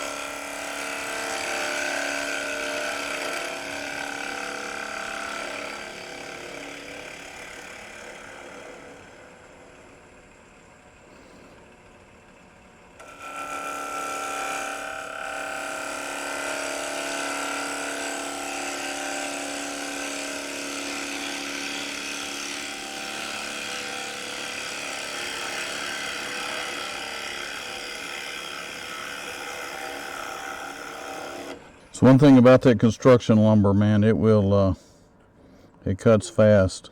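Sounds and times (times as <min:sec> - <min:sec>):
gouge cutting wood on lathe: 0:00.0 - 0:32.4
wood lathe running: 0:00.0 - 0:32.4.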